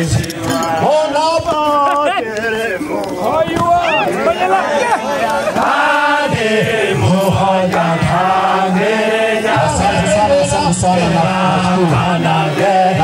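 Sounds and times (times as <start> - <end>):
group of voices chanting and singing: 0.0 - 13.0.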